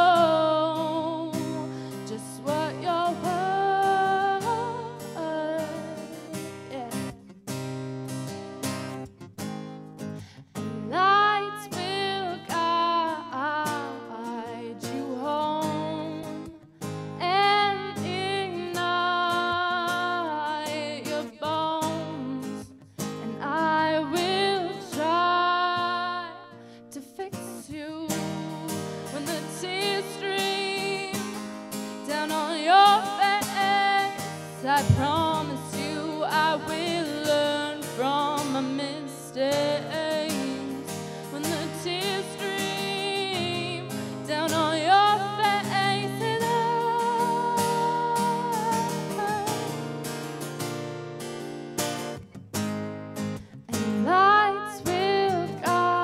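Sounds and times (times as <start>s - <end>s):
woman singing: 0.0s - 7.3s, 10.6s - 50.0s, 53.7s - 56.0s
acoustic guitar: 0.0s - 56.0s.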